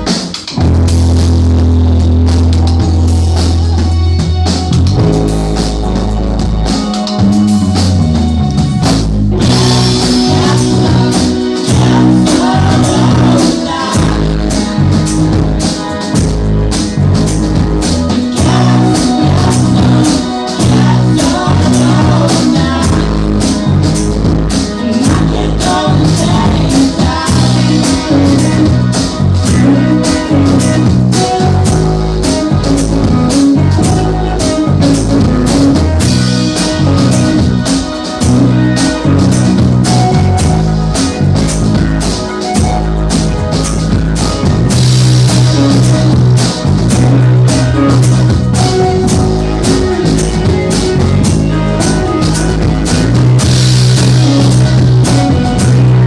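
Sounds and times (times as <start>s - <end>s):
bass and electric guitars: 0.0s - 56.0s
drum kit beat: 0.0s - 56.0s
person singing: 2.9s - 16.8s, 17.8s - 41.2s, 44.2s - 56.0s.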